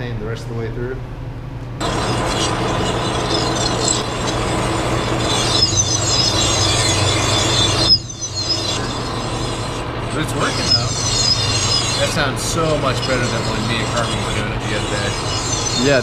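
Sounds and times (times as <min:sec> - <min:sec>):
cutting tool scraping metal: 0:01.8 - 0:16.0
high chirping squeals: 0:01.8 - 0:16.0
lathe motor hum: 0:01.8 - 0:16.0.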